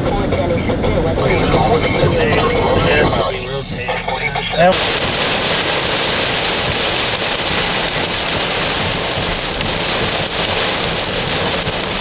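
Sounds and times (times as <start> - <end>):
heavy rain falling: 1.2 - 12.0.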